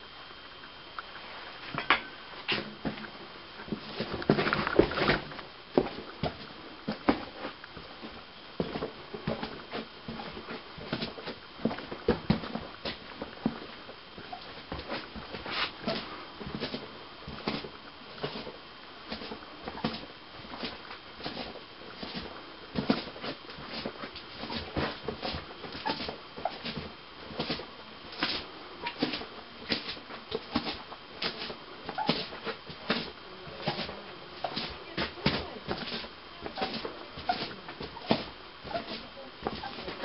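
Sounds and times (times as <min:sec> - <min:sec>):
footsteps crunching on rubble: 0:01.7 - 0:40.0.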